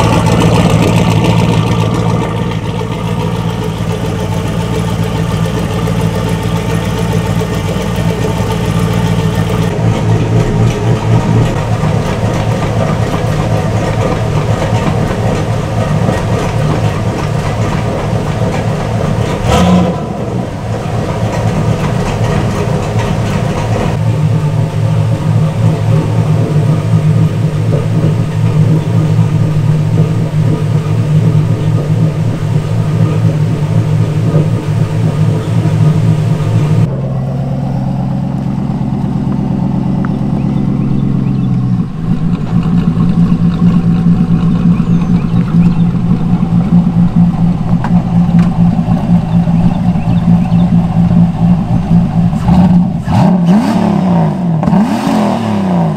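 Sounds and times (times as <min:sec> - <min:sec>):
car engine idling unevenly: 0:00.0 - 0:55.9.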